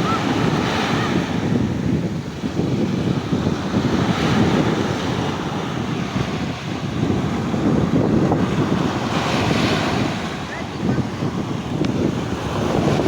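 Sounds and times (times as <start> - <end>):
sea surf washing in: 0.0 - 13.0
wind buffeting microphone: 0.0 - 13.0.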